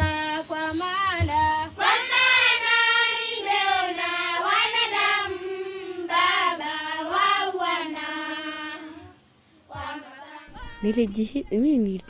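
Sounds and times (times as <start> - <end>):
girls singing together: 0.0 - 10.9.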